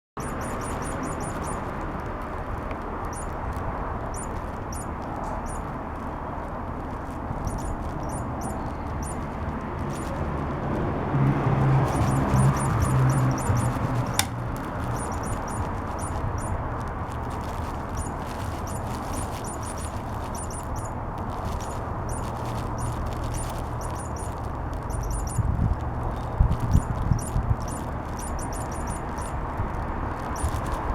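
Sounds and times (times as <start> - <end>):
high-pitched chirps: 0.2 - 1.8, 3.0 - 5.8, 7.3 - 10.2, 11.8 - 29.5, 30.1 - 30.8.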